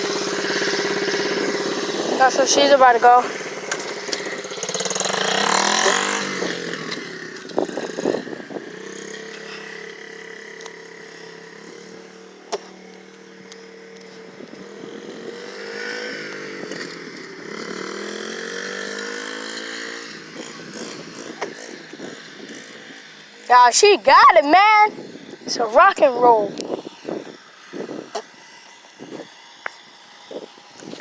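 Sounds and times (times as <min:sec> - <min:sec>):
small motorbike engine revving: 0:00.0 - 0:31.0.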